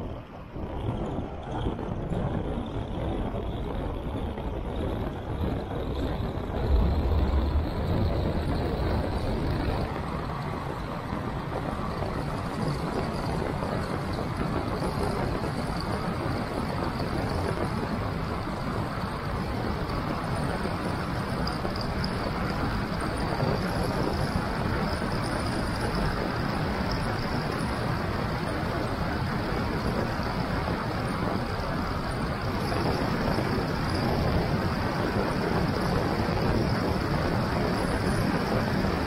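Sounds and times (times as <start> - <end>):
bicycle tyre rolling on asphalt: 0.0 - 39.0
wind rushing over microphone: 0.0 - 39.0.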